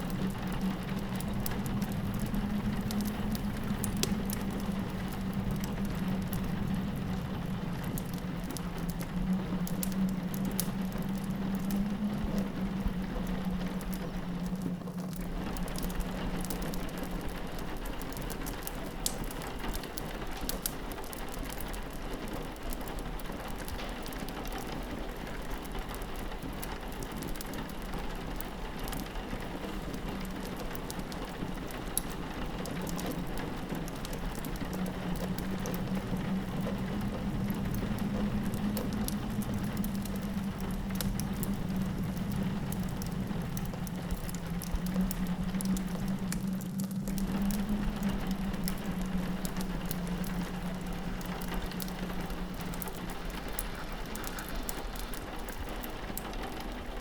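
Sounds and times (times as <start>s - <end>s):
fireplace crackling and popping: 0.0s - 57.0s
low wind howl: 0.0s - 57.0s
rain on a window: 0.0s - 57.0s.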